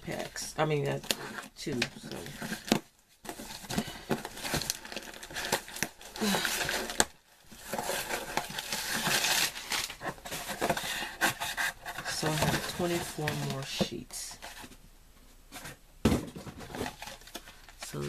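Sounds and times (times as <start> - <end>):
packaging crinkling and rustling: 0.0 - 14.8, 16.3 - 18.0
cardboard boxes clicking and knocking: 0.8 - 14.8, 15.6 - 18.0.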